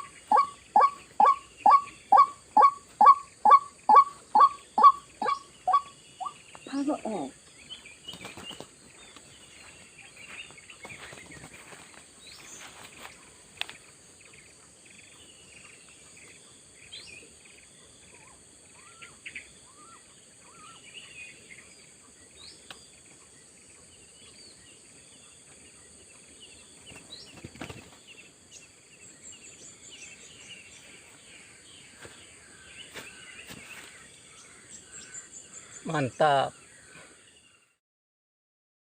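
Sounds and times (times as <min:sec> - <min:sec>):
bird chirps: 0:00.0 - 0:37.8.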